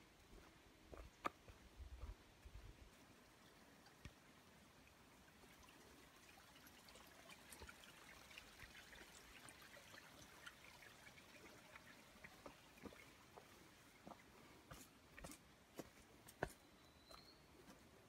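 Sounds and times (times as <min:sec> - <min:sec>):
soft ticks and crackles: 0:00.1 - 0:05.9, 0:07.3 - 0:17.8.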